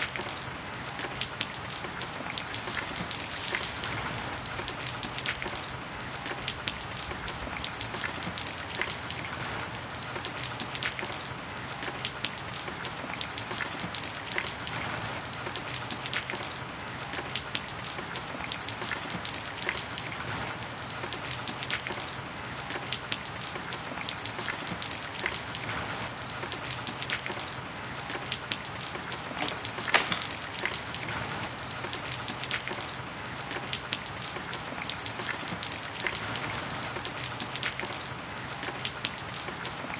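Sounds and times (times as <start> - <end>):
raindrops ticking close by: 0.0 - 39.9
steady rain: 0.0 - 39.9.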